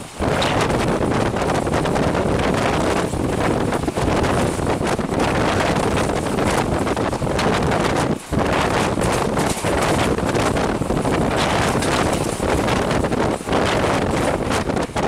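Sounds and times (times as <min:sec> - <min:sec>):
train rushing along track: 0:00.0 - 0:15.0
wind buffeting microphone: 0:00.0 - 0:15.0.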